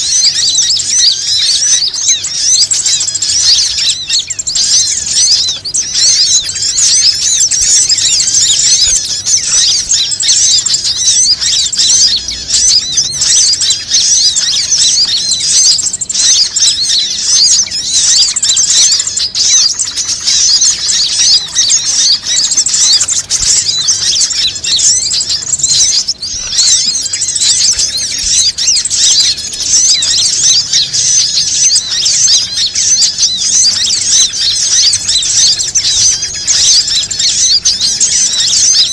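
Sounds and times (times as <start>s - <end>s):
small birds chirping rapidly: 0.0s - 38.9s.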